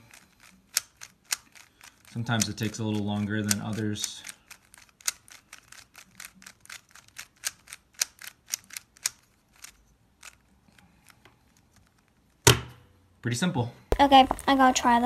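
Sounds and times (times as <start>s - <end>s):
puzzle cube plastic clicks: 0.0s - 12.4s.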